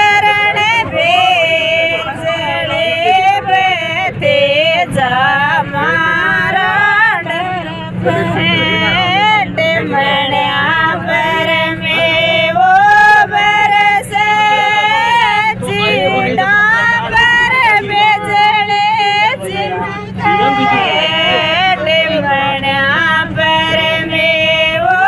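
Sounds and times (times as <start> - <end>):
low bus hum: 0.0 - 25.0
women singing folk song: 0.0 - 25.0.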